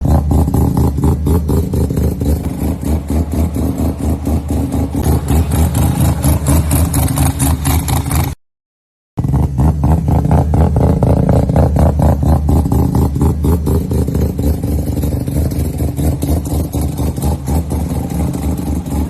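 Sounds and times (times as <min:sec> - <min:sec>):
rotary engine exhaust pulsing: 0:00.0 - 0:08.4, 0:09.2 - 0:19.0.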